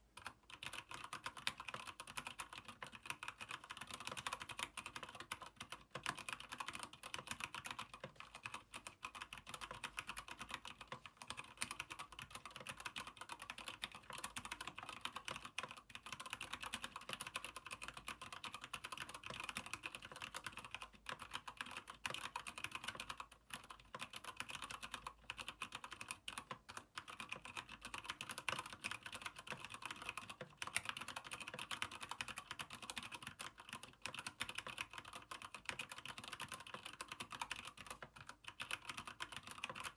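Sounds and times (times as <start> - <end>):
fast mechanical keyboard typing: 0.2 - 39.9.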